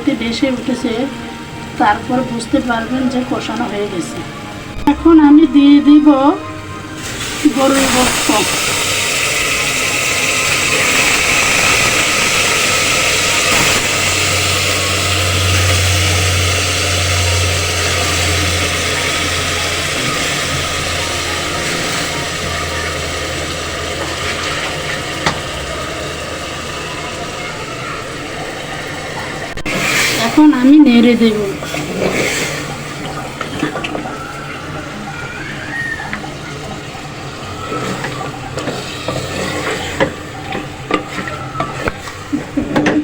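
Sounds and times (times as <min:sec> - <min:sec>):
meat sizzling in hot oil: 0:06.9 - 0:43.0.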